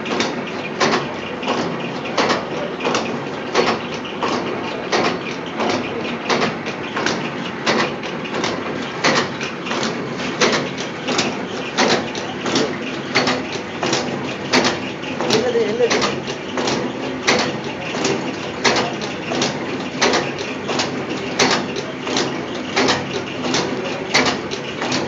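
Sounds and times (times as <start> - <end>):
machine running noise: 0.0 - 25.0
pleating machine blade knocking: 0.0 - 25.0.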